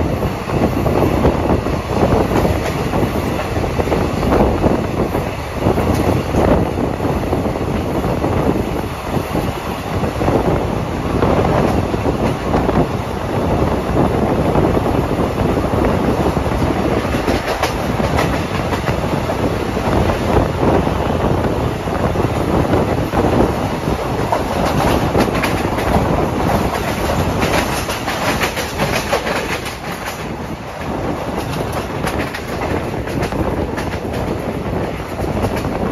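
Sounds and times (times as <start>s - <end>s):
clickety-clack over rail joints: 0.0s - 35.9s
train wheels rumbling on rails: 0.0s - 35.9s.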